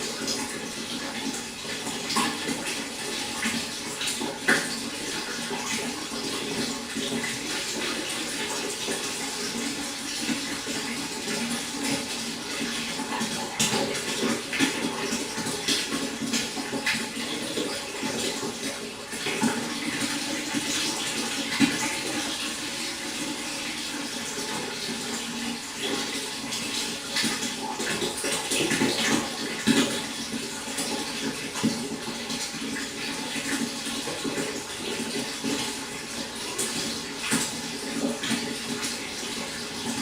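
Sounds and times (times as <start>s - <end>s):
pond water running and splashing: 0.0s - 40.0s.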